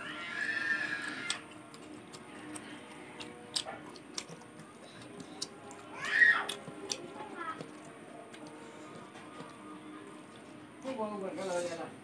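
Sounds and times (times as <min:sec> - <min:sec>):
wet chewing: 0:00.4 - 0:10.6.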